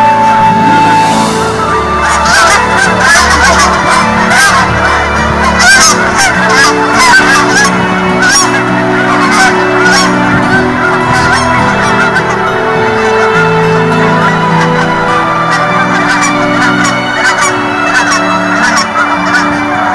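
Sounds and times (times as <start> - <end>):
geese honking: 0.0 - 19.9.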